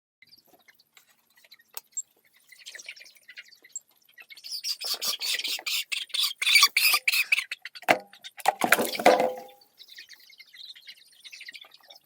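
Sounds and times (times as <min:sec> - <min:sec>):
chickens peeping and cheeping: 0:00.2 - 0:12.0.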